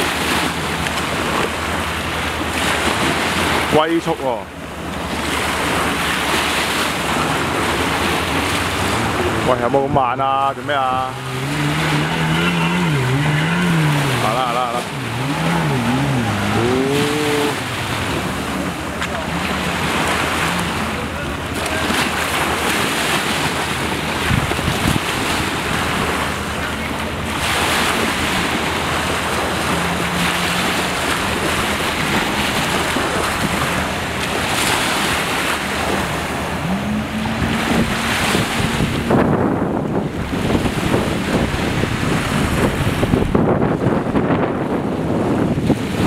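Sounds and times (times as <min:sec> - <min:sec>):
distant jet ski engine drone: 0:00.0 - 0:46.0
small waves washing onto beach: 0:00.0 - 0:46.0
wind buffeting microphone: 0:04.5 - 0:46.0.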